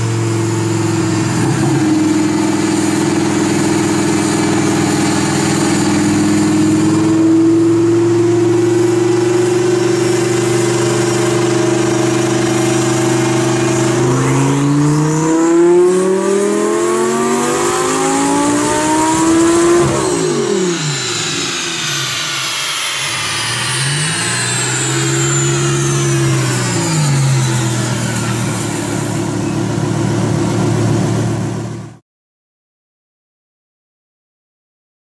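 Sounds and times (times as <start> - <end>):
car engine revving on dyno: 0.0 - 32.0
high turbo whine: 0.0 - 32.0.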